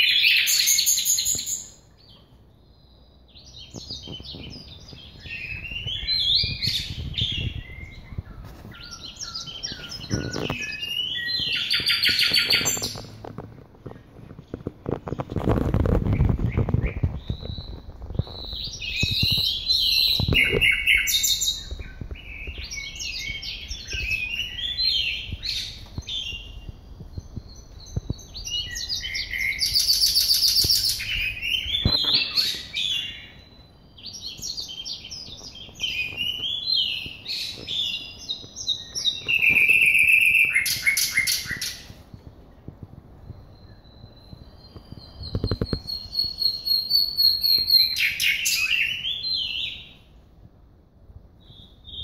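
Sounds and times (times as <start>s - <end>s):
songbirds singing: 0.0s - 52.0s.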